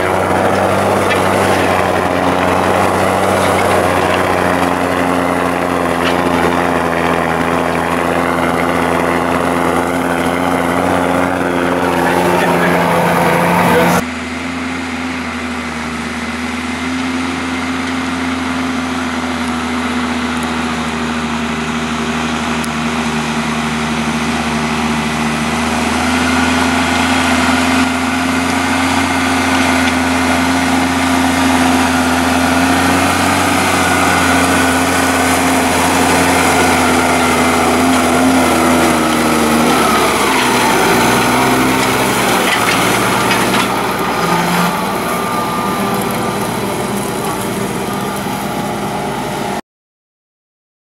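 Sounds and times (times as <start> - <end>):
tractor diesel engine running: 0.0 - 49.6.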